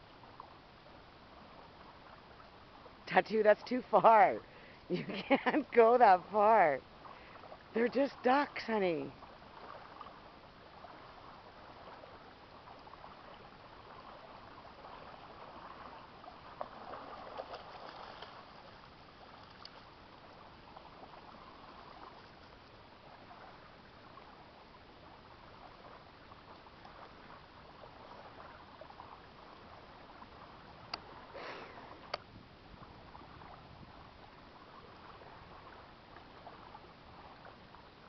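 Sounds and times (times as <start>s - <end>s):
small waves lapping: 0.0s - 38.0s.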